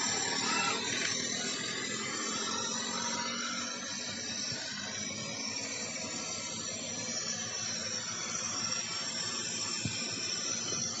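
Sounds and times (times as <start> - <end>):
toy tractor hissing drone: 0.0 - 11.0.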